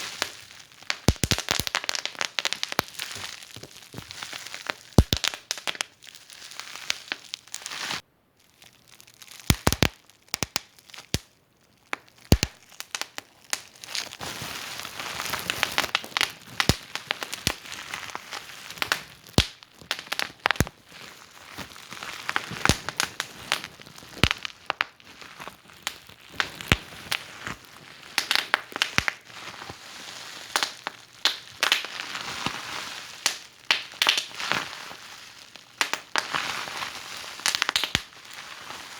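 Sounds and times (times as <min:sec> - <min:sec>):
wood fire crackling and popping: 0:00.0 - 0:08.0, 0:09.1 - 0:29.8, 0:30.5 - 0:38.3.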